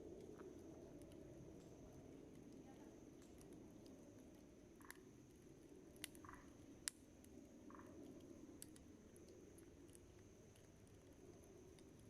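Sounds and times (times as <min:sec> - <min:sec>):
campfire crackling and popping: 0:00.0 - 0:12.0
campfire rustle: 0:00.0 - 0:12.0
soft hiss of burning wood: 0:00.0 - 0:12.0.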